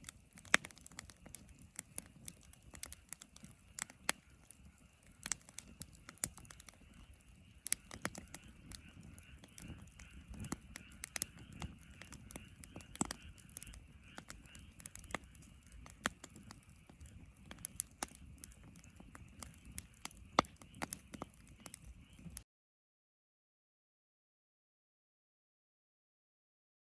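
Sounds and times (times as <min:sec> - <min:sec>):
wood fire crackling and popping: 0:00.0 - 0:22.4.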